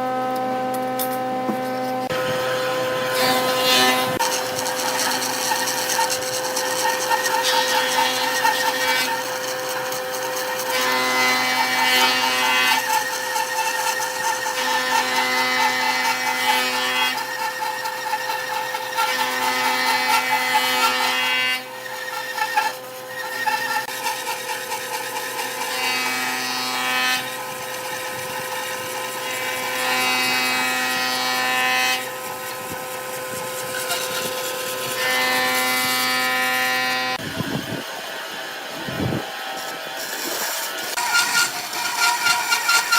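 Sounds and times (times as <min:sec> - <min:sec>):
tool cutting spinning wood: 0:00.0 - 0:42.9
lathe motor hum: 0:02.0 - 0:42.9.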